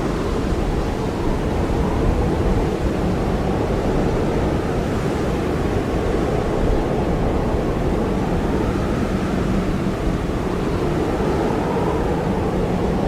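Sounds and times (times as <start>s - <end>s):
blizzard wind roaring: 0.0s - 13.0s
wavering wind whistle: 0.0s - 13.0s.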